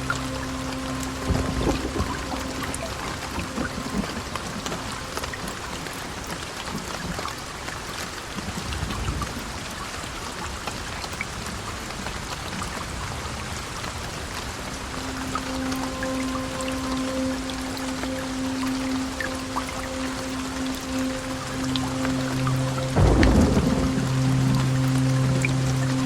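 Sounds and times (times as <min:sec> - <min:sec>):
heavy rain falling: 0:00.0 - 0:26.0
sharp drips and ticks: 0:00.0 - 0:26.0.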